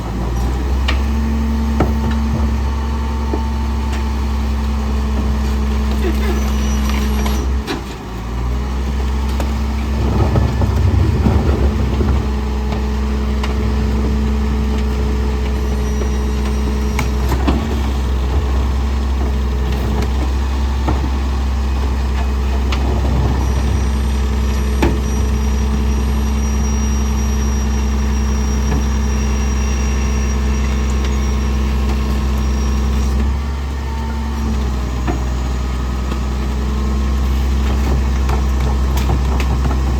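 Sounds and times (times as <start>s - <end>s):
garbage truck engine idling: 0.0s - 39.9s
clunks and knocks: 0.3s - 26.0s, 30.6s - 39.9s.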